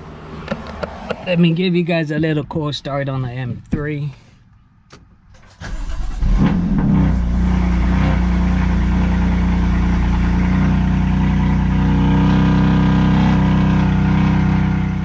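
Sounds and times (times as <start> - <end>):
car engine starting and idling: 0.0 - 15.0.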